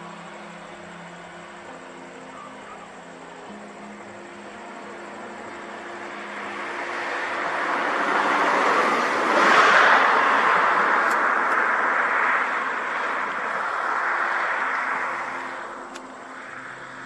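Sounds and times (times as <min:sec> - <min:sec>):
vehicle passing by: 0:03.2 - 0:17.0.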